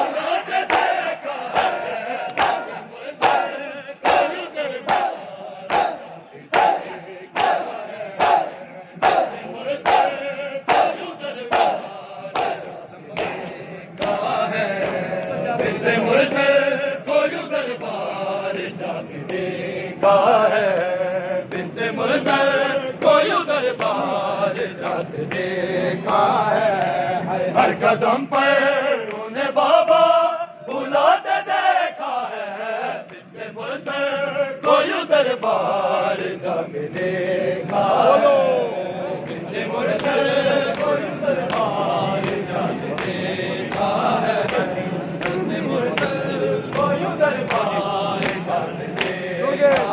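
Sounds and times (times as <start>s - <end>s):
men chanting in unison: 0.0s - 49.9s.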